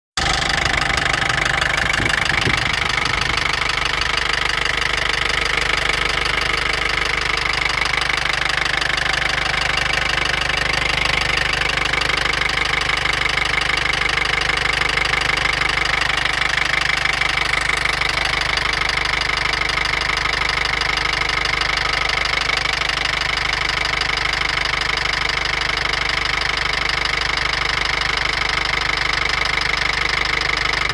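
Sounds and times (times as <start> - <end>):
diesel engine knocking: 0.2 - 30.9.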